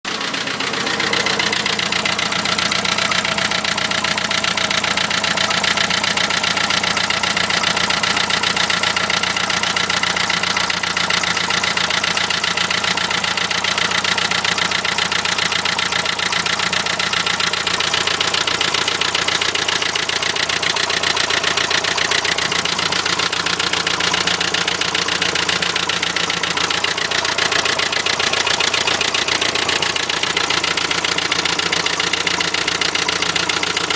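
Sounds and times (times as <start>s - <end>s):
diesel engine idling with knocking: 0.0s - 33.9s.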